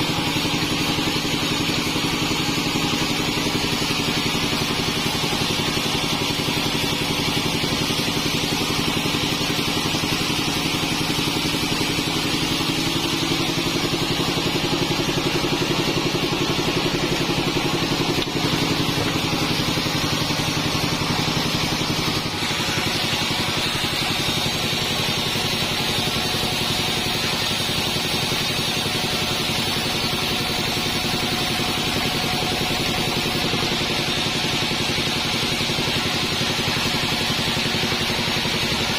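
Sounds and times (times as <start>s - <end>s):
bandsaw machine drone: 0.0s - 38.9s
hissing saw blade: 0.0s - 38.9s.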